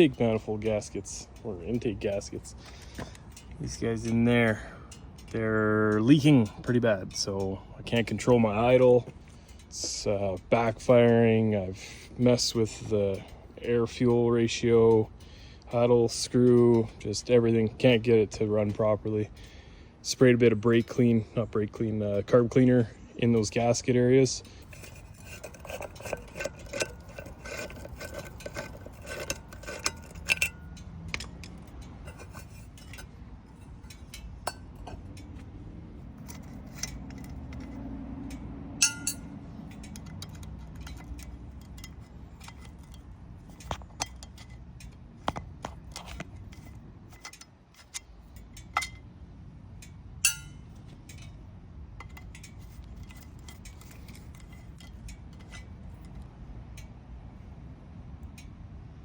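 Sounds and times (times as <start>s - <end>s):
metal tools clinking and scraping: 0.0s - 19.5s, 20.2s - 49.2s, 49.8s - 56.2s.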